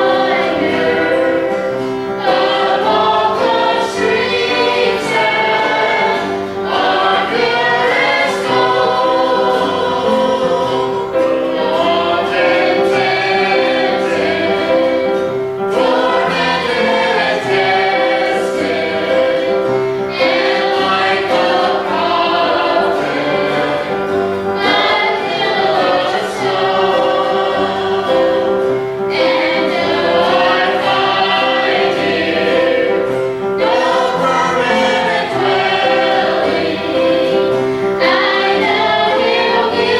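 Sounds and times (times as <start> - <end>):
group singing a gospel hymn: 0.0 - 39.9.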